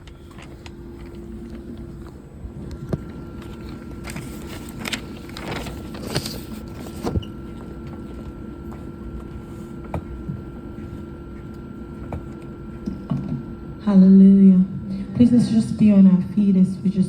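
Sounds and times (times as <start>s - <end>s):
electrical hum: 0.0s - 17.0s
low rumbling background noise: 0.0s - 17.0s.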